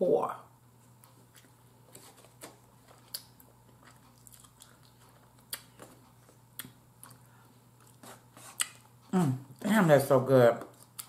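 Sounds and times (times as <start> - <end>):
person chewing: 1.0 - 9.6, 10.7 - 11.0.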